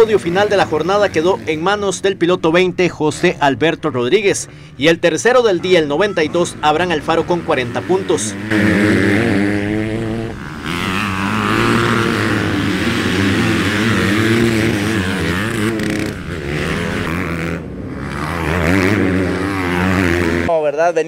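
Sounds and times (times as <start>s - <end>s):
dirt bike engines revving: 0.0s - 20.9s.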